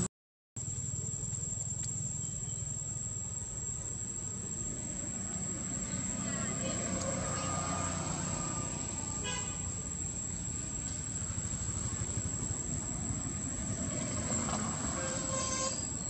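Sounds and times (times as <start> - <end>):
insect drone: 0.6 - 16.0.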